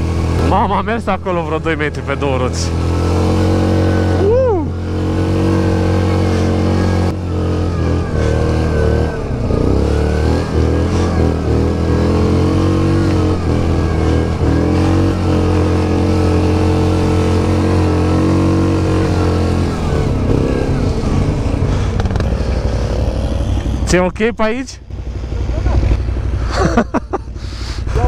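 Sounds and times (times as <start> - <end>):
atv engine climbing: 0.0 - 28.0.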